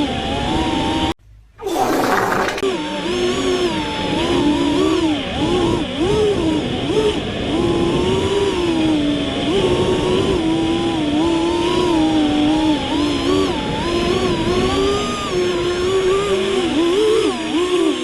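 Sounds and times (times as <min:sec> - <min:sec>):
quadcopter propellers buzzing: 0:01.6 - 0:18.0.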